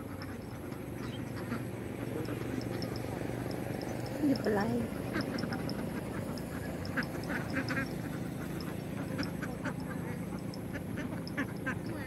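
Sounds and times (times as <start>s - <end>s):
ducks quacking: 0.0s - 12.0s
steady low hum: 0.0s - 12.0s.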